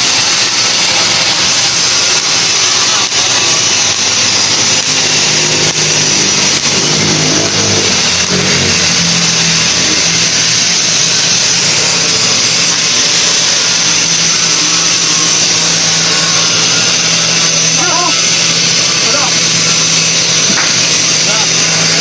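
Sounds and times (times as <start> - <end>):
engine revving: 0.0 - 22.0
loud steady hiss: 0.0 - 22.0.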